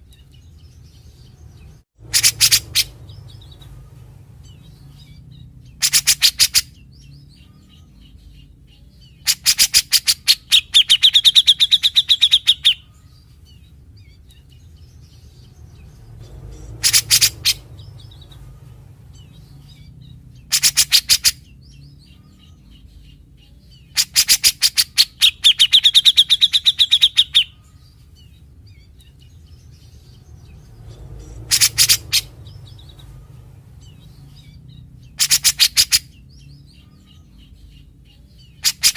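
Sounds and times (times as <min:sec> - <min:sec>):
bird singing rasping phrases: 0:00.0 - 0:38.9.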